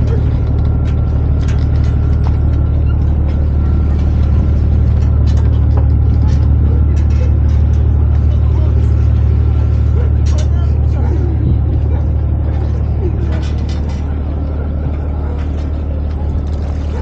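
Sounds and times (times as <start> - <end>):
boat engine low rumble: 0.0 - 17.0.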